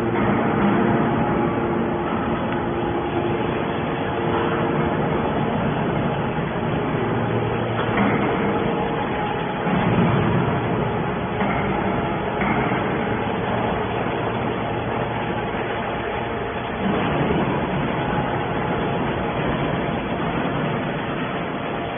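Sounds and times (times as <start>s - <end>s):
hydraulic baler mechanical drone: 0.0s - 21.9s.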